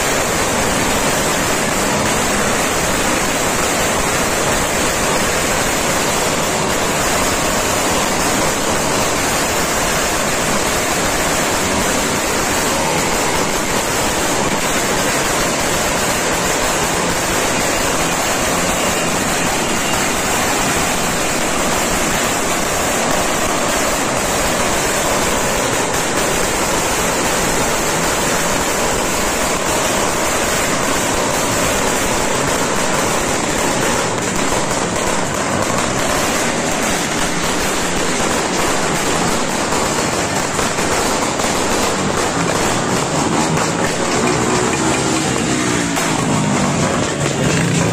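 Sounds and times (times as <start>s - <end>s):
firecrackers and fireworks banging: 0.0s - 47.9s.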